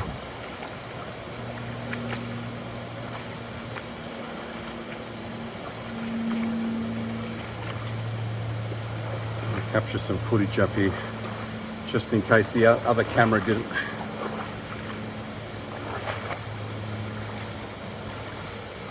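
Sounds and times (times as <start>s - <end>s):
creek water running: 0.0s - 18.9s.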